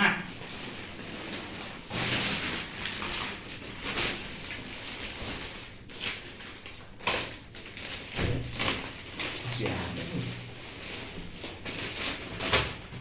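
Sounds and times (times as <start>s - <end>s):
plastic wrapping rustling: 0.3s - 13.0s.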